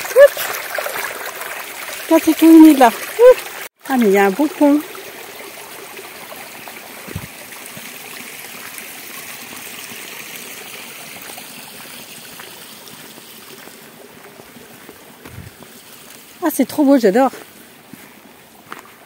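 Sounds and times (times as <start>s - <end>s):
stream water trickling: 0.0s - 19.0s.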